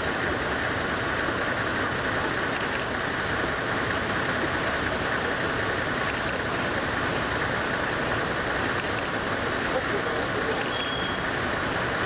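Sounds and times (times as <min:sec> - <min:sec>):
diesel locomotive running: 0:00.0 - 0:12.0.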